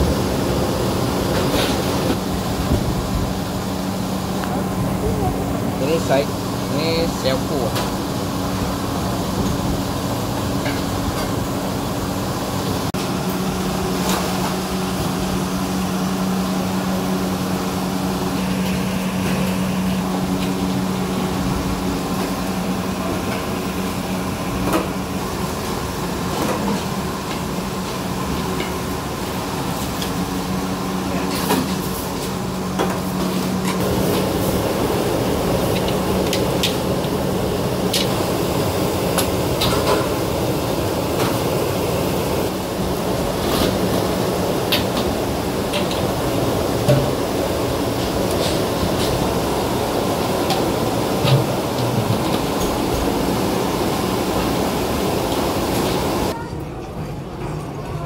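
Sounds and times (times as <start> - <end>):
kitchen mechanical hum: 0.0 - 58.0.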